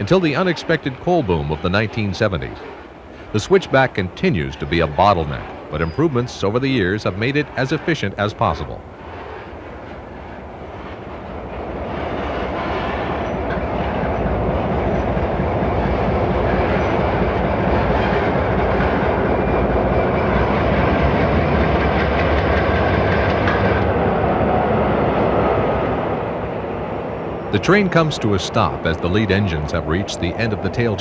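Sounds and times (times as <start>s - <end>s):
diesel locomotive engine drone: 0.0s - 31.0s
train wheels on rails: 0.0s - 31.0s.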